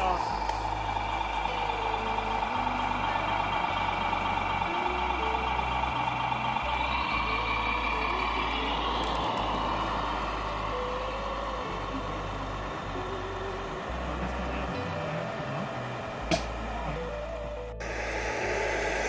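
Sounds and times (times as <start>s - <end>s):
high motor whine: 0.0s - 19.0s
model truck motor drone: 0.0s - 19.0s.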